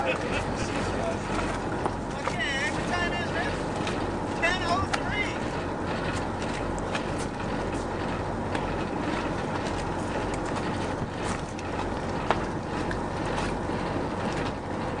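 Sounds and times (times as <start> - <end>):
outboard motors idling: 0.0 - 15.0.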